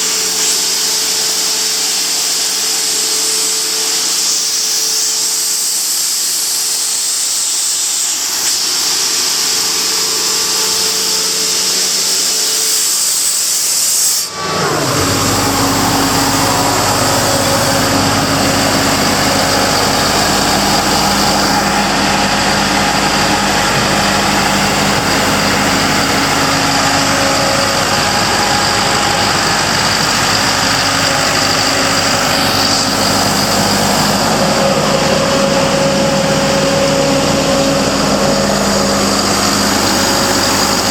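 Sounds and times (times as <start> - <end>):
compressor engine running: 0.0 - 40.9
loud hiss: 0.0 - 40.9.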